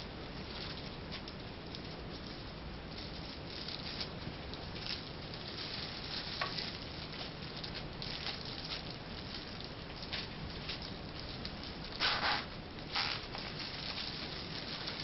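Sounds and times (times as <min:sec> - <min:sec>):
plastic bags crinkling: 0:00.3 - 0:15.0.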